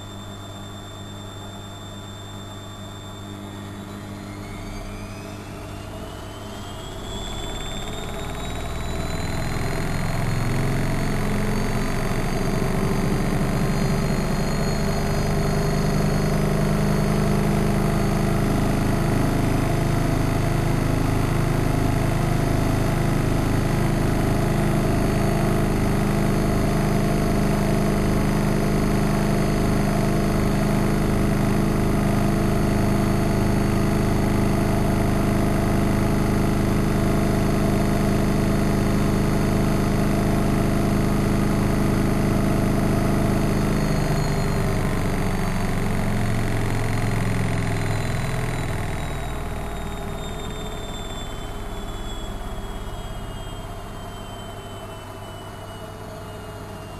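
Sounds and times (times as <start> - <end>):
washing machine spinning: 0.0 - 56.9.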